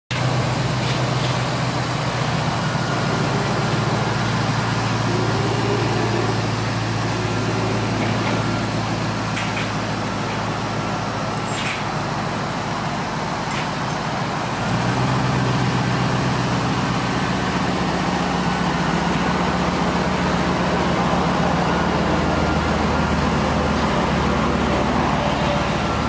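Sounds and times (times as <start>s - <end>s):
pickup engine idling: 0.1s - 26.0s.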